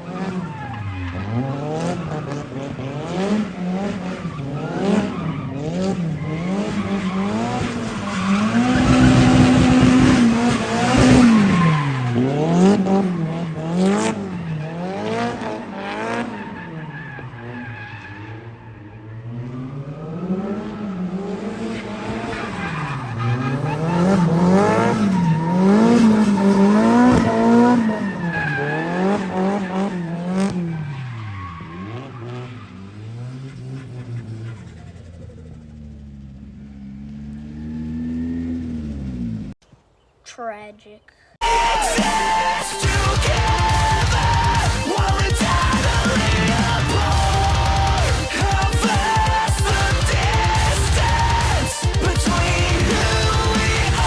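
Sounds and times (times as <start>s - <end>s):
car engine revving: 0.0s - 39.6s, 41.4s - 54.0s.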